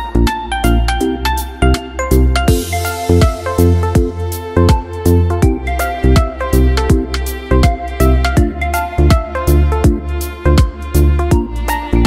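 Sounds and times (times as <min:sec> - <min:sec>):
music with beat and deep bass: 0:00.0 - 0:12.0.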